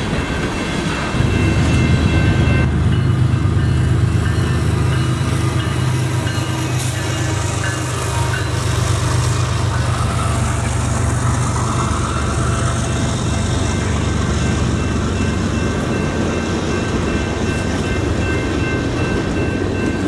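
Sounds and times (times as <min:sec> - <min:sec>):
crossing bells ringing: 0:00.0 - 0:20.0
diesel locomotive engine rumble: 0:00.0 - 0:20.0.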